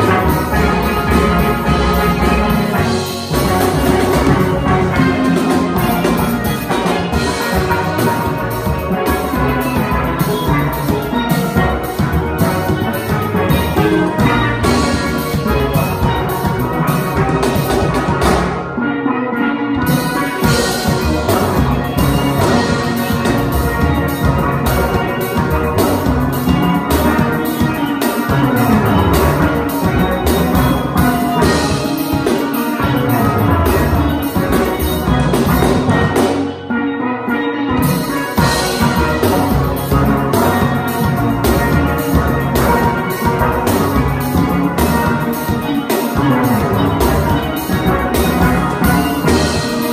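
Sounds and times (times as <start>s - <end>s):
drum kit with cymbals: 0.0s - 49.9s
steel pans playing: 0.0s - 49.9s.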